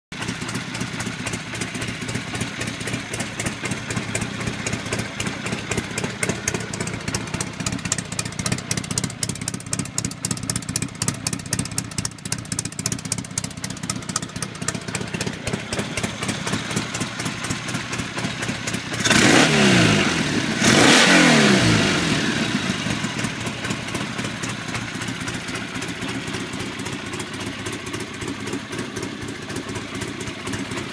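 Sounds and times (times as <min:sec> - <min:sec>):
motorcycle engine idling and revving: 0:00.1 - 0:30.9.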